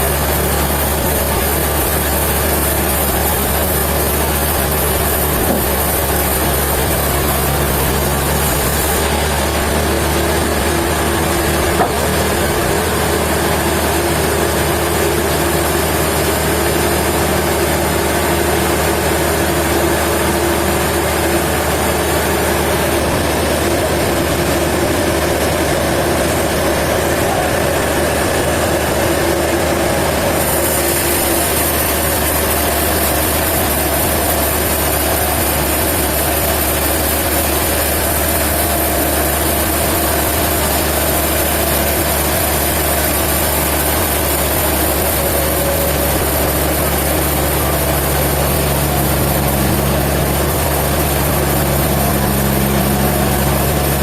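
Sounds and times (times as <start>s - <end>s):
heavy machinery running: 0.0s - 54.0s.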